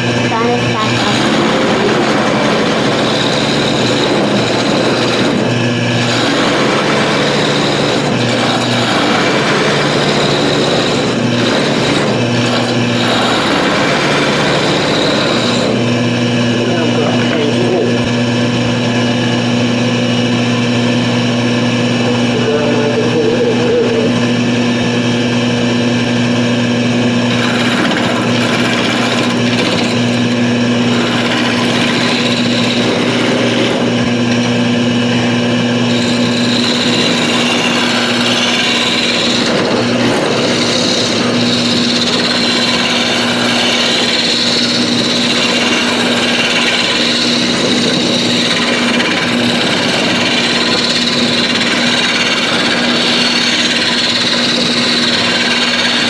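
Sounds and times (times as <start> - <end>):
turning tool scraping wood: 0.0 - 18.2, 26.9 - 56.0
wood lathe motor hum: 0.0 - 56.0.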